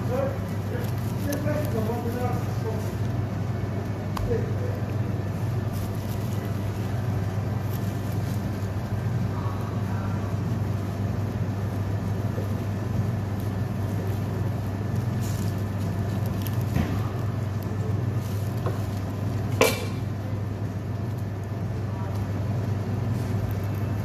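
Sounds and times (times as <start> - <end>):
low machinery hum: 0.0 - 24.0.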